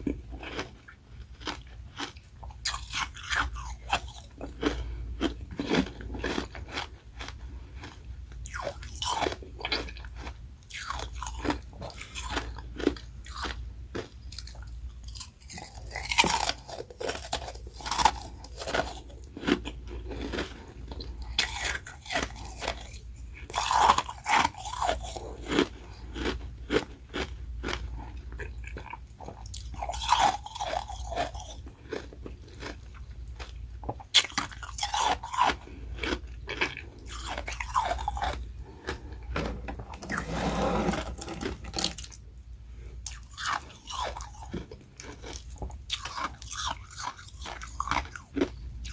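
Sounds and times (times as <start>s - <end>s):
ice crunching while chewed: 0.0s - 42.2s, 42.8s - 48.9s.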